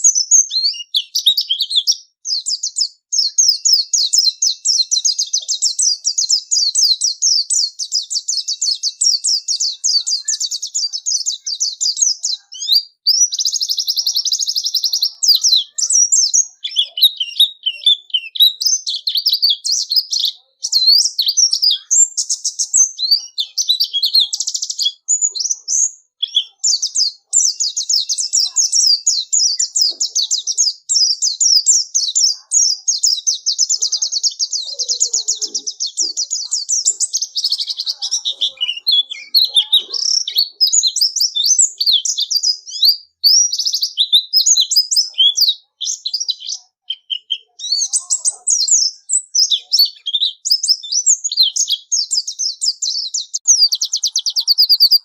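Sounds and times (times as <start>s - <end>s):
bird twittering song: 0.0s - 55.0s.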